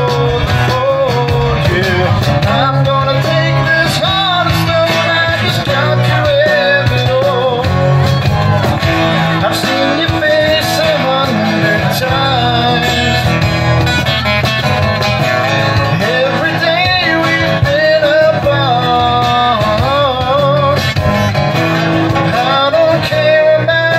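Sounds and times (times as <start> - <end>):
person singing: 0.0 - 13.4, 15.8 - 21.0, 22.1 - 23.9
keyboard: 0.0 - 23.9
strummed acoustic guitars: 0.0 - 23.9.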